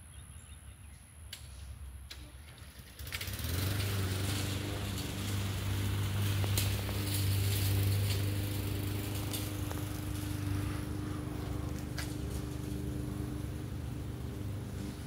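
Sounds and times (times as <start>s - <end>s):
engine hum: 1.2s - 15.0s.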